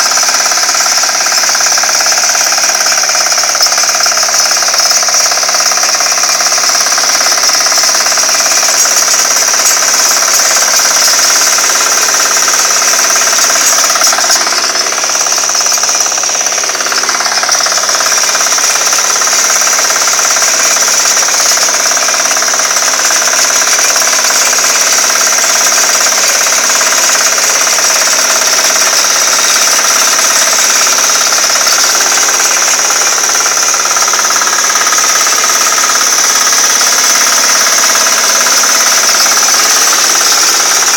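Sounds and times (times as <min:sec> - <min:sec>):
small engine knocking: 0:00.0 - 0:40.9
tiller churning soil: 0:00.0 - 0:40.9.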